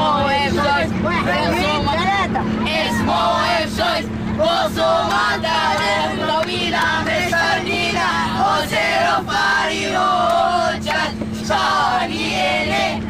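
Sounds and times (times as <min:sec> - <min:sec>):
boys singing a rhythmic chant: 0:00.0 - 0:13.0
steady hum: 0:00.0 - 0:13.0.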